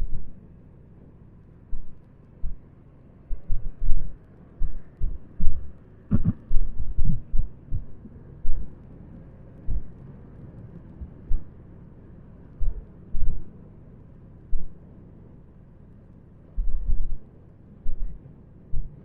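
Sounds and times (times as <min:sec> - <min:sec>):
faint steady background: 0:00.0 - 0:19.0.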